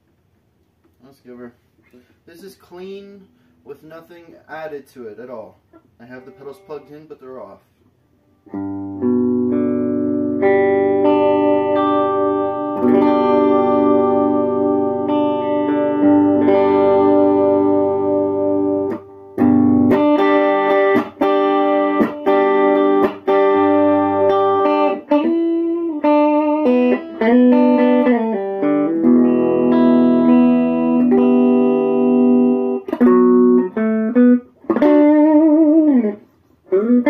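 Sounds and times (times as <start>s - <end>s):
clean electric guitar: 5.6s - 7.5s, 8.4s - 37.0s.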